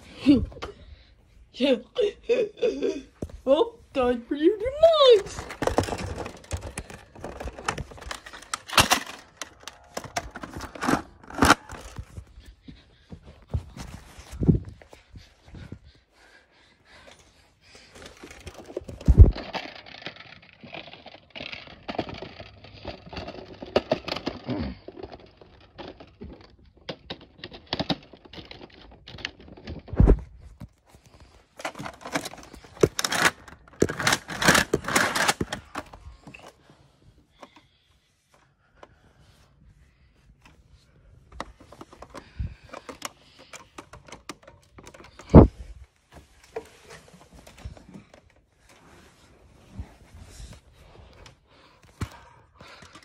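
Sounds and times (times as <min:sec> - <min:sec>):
handling rustling and scraping: 0:03.2 - 0:15.9, 0:17.0 - 0:53.0.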